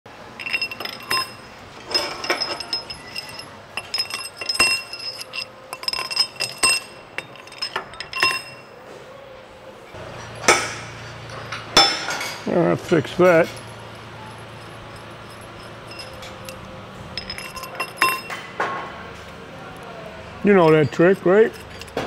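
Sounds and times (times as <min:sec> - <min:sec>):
metal rods clinking and rattling: 0:00.3 - 0:08.7, 0:10.0 - 0:18.8, 0:20.5 - 0:22.0.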